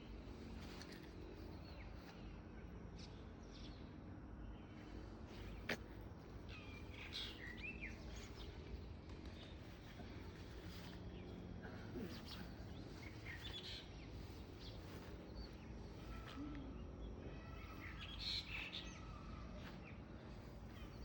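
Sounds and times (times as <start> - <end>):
birds chirping: 3.0 - 21.0.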